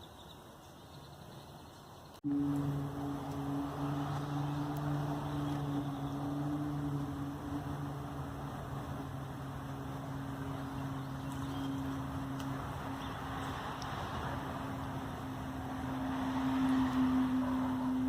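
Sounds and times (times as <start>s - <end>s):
low droning hum in the sky: 2.2s - 18.0s.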